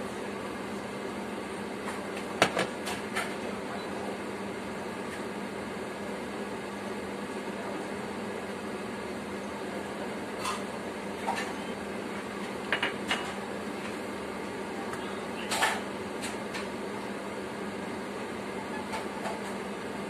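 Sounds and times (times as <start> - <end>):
kitchen hum: 0.0 - 20.0.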